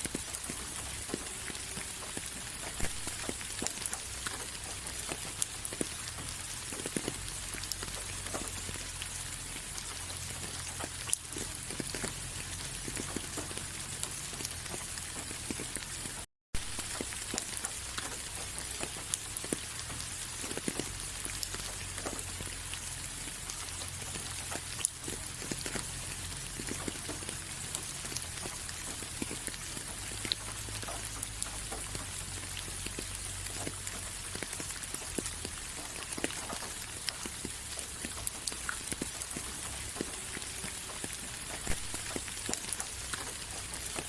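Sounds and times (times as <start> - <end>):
steady rain with dripping: 0.0 - 44.0.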